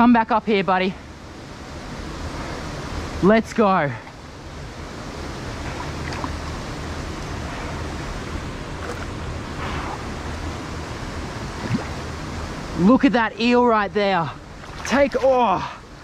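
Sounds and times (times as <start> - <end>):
water rushing in a creek: 1.9 - 16.0.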